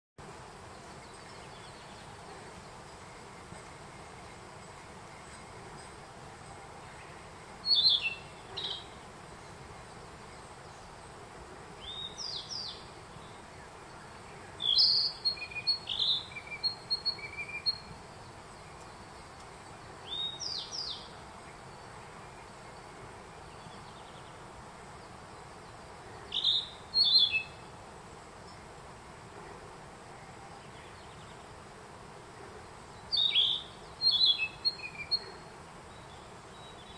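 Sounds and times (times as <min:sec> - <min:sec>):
steady hiss: 0:00.2 - 0:36.9
birds singing whistled notes: 0:00.7 - 0:04.4, 0:05.1 - 0:11.0, 0:11.8 - 0:27.8, 0:32.6 - 0:36.9.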